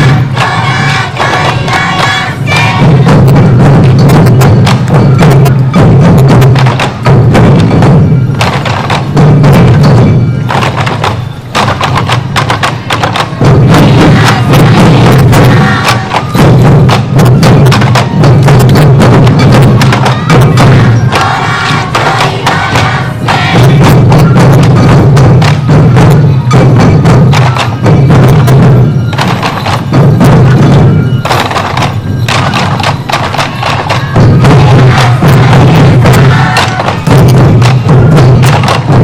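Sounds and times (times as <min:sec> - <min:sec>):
taiko drums beating: 0:00.0 - 0:39.0.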